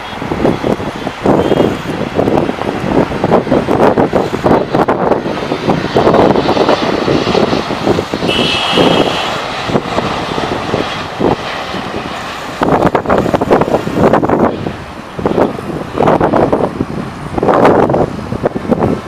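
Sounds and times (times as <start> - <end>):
high jet whine: 0.0 - 19.0
jet engines rushing: 0.0 - 19.0.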